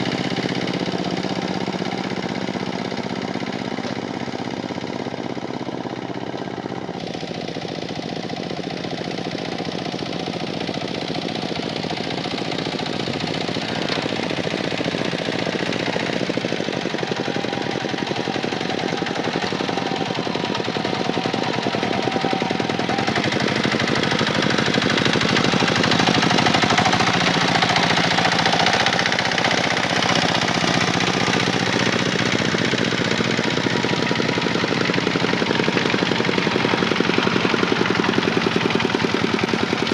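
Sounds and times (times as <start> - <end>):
tractor diesel engine knocking: 0.0 - 39.9.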